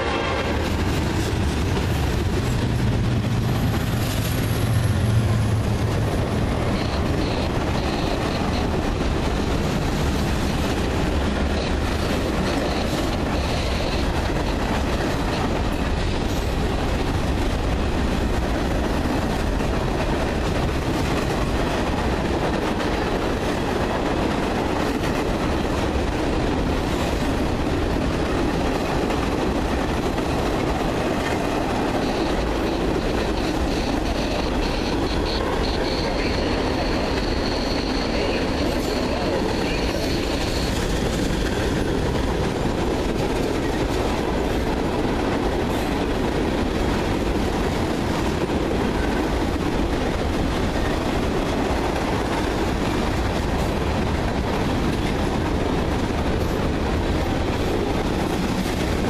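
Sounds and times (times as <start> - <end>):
freight train wheels rumbling: 0.0 - 59.0
wheels clickety-clack over rail joints: 0.0 - 59.0.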